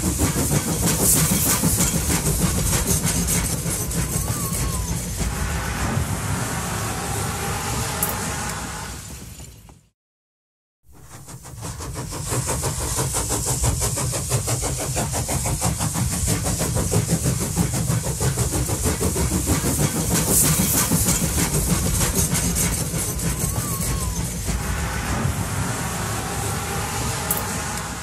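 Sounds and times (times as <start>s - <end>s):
train running: 0.0s - 9.9s, 10.9s - 28.0s.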